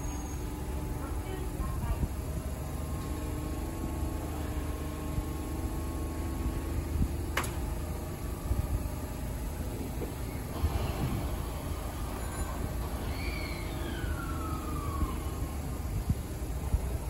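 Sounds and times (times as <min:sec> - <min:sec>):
electric trains humming: 0:00.0 - 0:17.0.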